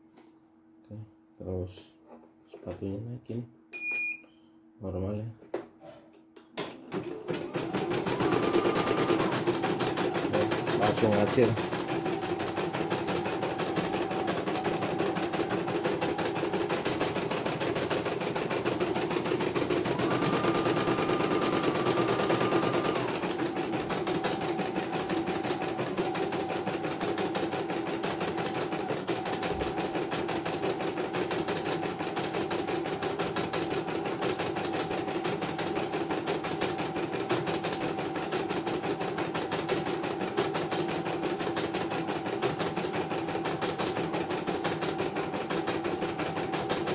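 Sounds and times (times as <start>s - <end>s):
embroidery machine stitching clatter: 6.8s - 46.9s.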